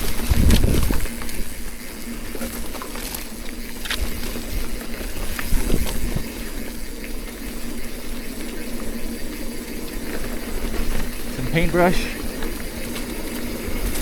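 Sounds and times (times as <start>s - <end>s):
mountain bike tyre noise: 0.0s - 14.0s.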